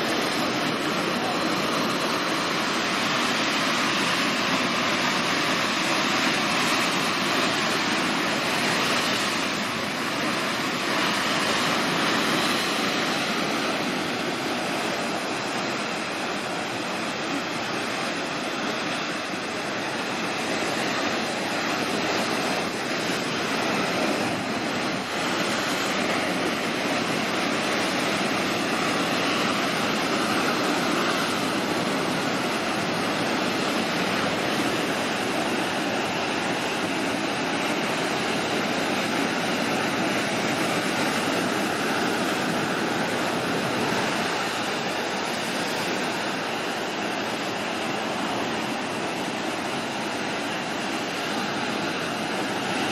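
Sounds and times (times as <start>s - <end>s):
waves breaking on shore: 0.0s - 52.9s.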